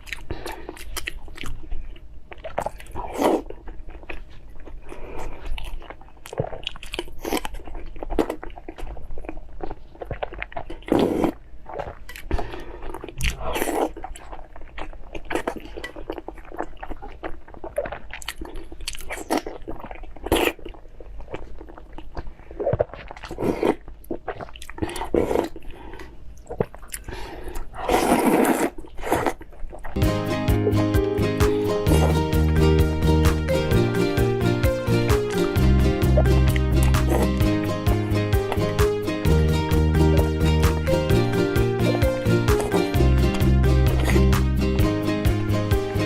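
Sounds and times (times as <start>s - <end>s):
person chewing and biting food: 0.0s - 30.1s, 31.0s - 44.7s.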